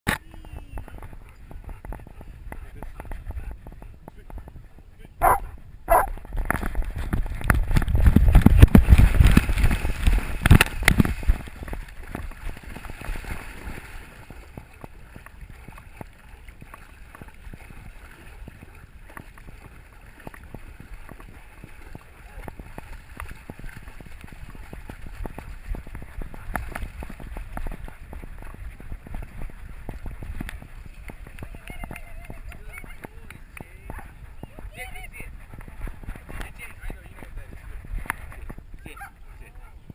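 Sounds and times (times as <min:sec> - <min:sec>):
water splashing and churning: 0:00.1 - 0:39.9
rushing river water: 0:05.2 - 0:39.9.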